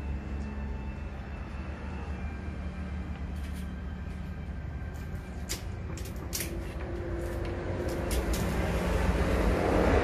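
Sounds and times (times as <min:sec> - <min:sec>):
vehicle passing rumble: 0:00.0 - 0:10.0.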